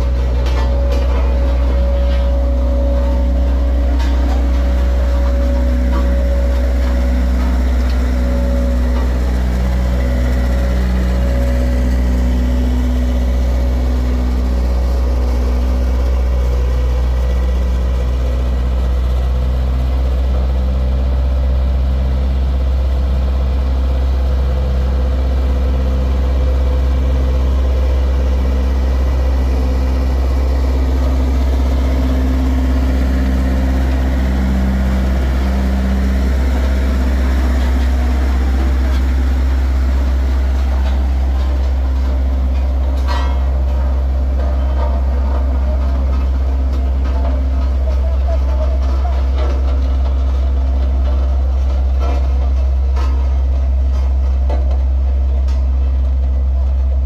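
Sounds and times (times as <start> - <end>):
heavy engine idling: 0.0 - 57.0.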